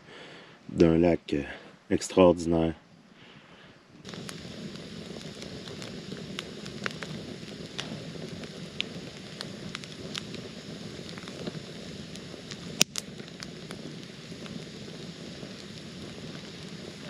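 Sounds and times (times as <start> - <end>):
campfire crackling and popping: 3.2 - 17.0.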